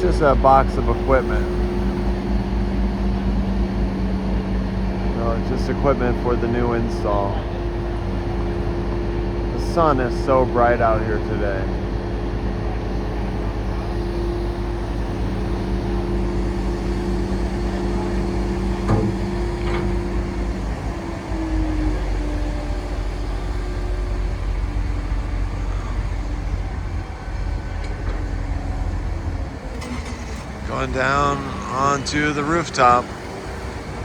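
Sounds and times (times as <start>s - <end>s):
heavy vehicle engines running: 0.0s - 34.0s
street traffic: 0.0s - 34.0s.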